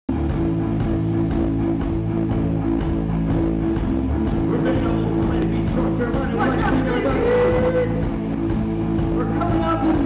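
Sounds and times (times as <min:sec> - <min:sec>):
bass guitar: 0:00.1 - 0:10.0
drums: 0:00.1 - 0:10.0.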